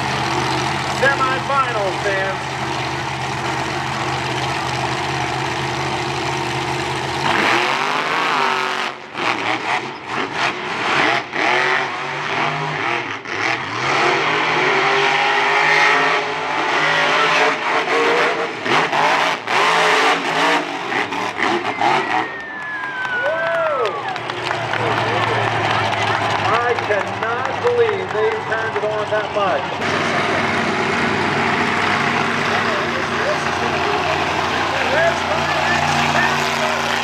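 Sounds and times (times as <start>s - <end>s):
monster truck engines revving: 0.0s - 37.0s.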